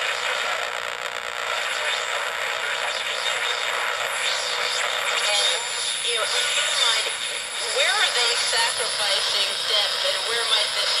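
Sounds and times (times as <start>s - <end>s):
radio static hiss and crackle: 0.0s - 11.0s.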